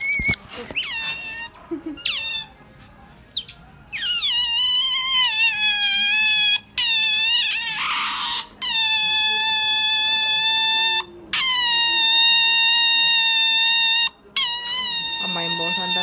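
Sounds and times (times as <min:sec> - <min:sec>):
otters squealing: 0:00.0 - 0:02.7, 0:03.3 - 0:16.0.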